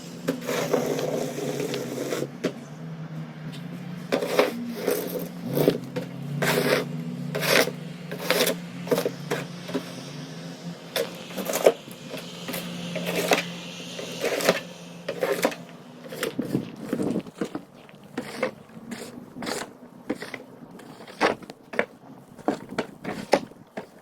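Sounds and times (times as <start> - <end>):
steady low hum: 0.0 - 20.9
snow shovel scraping pavement: 0.0 - 24.0.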